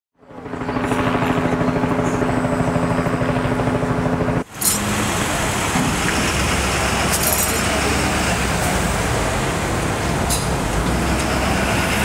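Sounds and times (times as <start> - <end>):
large engine throbbing: 0.2 - 12.0
traffic noise: 0.2 - 12.0.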